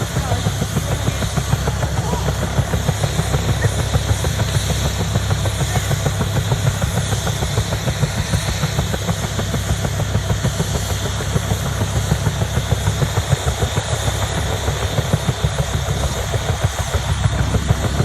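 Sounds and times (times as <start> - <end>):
helicopter rotor beating: 0.0 - 18.0
high turbine engine whine: 0.0 - 18.0.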